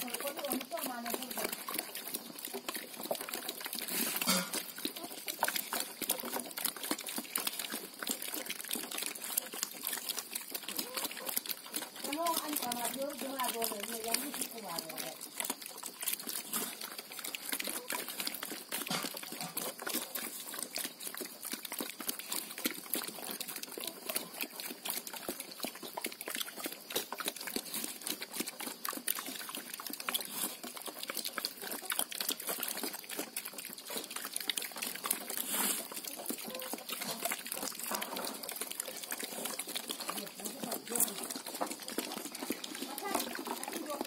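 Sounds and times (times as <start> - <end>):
pigs slurping slop: 0.0 - 44.0.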